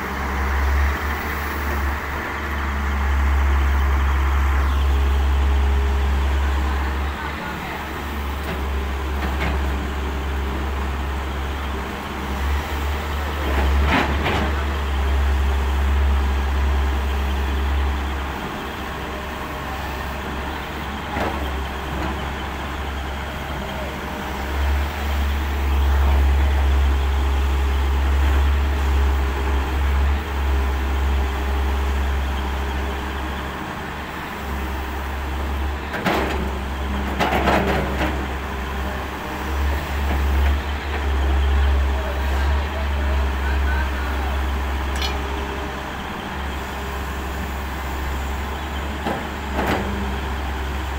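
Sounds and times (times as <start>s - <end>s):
excavator diesel engine rumbling: 0.0s - 50.9s.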